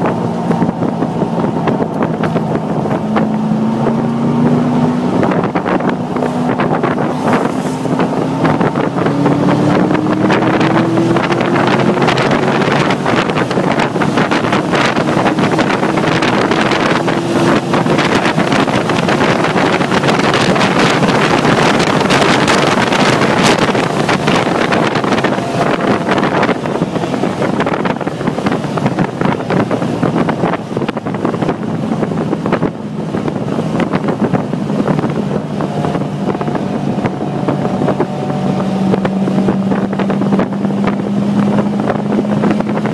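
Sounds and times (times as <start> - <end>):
car engine at speed: 0.0 - 42.9
wind rushing over microphone: 0.0 - 42.9.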